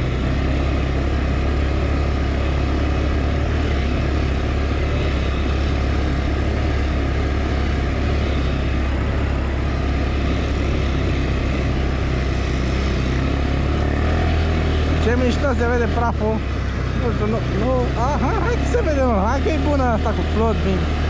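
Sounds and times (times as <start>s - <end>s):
engine droning steadily: 0.0s - 21.0s.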